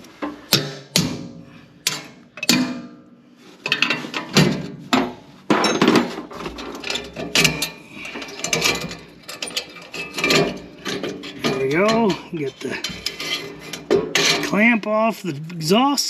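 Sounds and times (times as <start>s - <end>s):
metal tools clanking: 1.4s - 2.9s, 3.6s - 15.1s.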